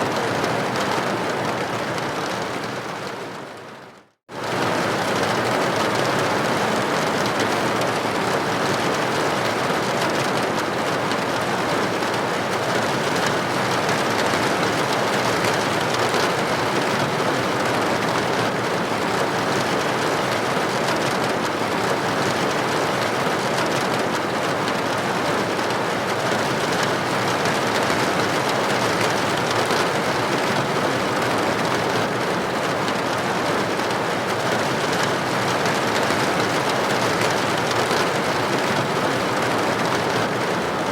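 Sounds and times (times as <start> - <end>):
rain pattering on a window: 0.0 - 40.9.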